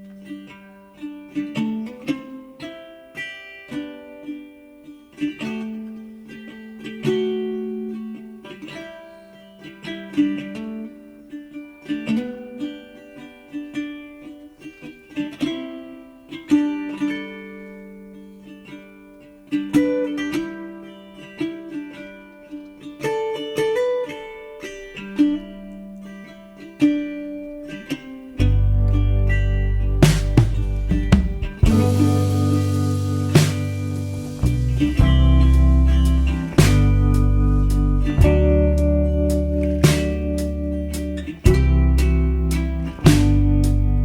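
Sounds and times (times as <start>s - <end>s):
plucked guitar melody: 0.0s - 44.0s.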